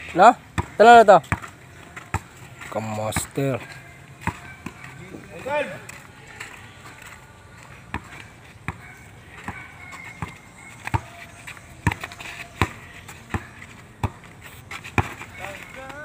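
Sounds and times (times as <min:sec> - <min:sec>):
basketball bouncing on dirt: 0:00.1 - 0:16.0.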